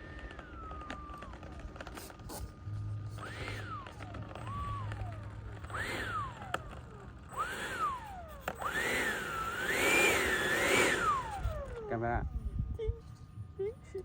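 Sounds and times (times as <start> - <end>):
electric ducted fan revving: 0.0 - 13.8.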